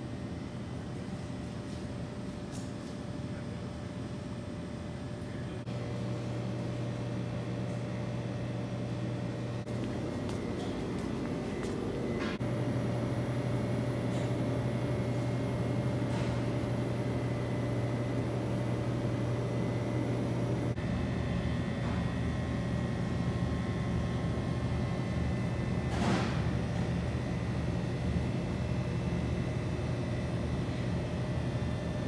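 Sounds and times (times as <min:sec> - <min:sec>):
refrigeration machine hum: 0:00.0 - 0:32.0.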